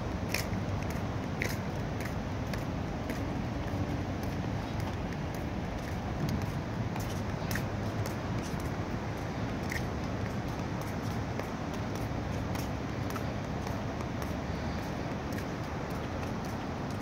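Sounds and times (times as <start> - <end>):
footsteps on pavement: 0.0 - 17.0
steady low rumble: 0.0 - 17.0.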